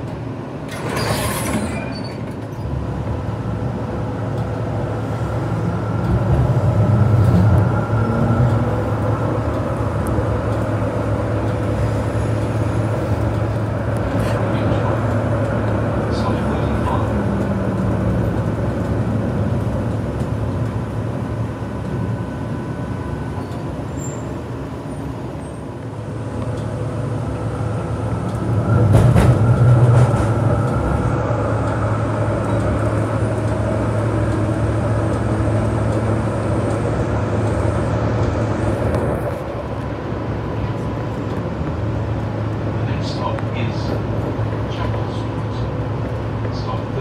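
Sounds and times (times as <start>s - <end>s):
tram hum and rumble: 0.0s - 47.0s.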